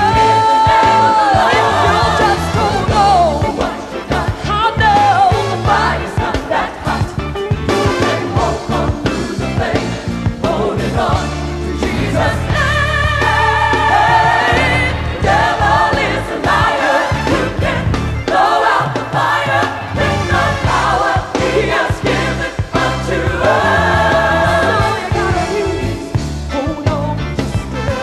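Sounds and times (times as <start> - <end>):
gospel choir singing: 0.0 - 27.3
band playing bass and drums: 0.0 - 28.0.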